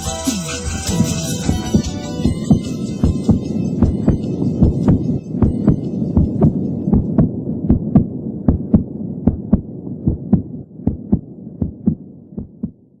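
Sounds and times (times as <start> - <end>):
low hum: 0.7 - 13.0
heartbeat-like low thumps: 0.8 - 13.0.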